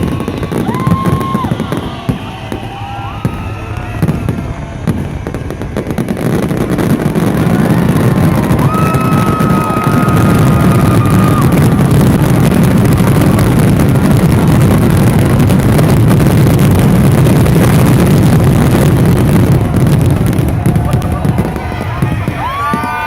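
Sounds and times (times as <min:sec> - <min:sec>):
fireworks rumbling and crackling: 0:00.0 - 0:23.0.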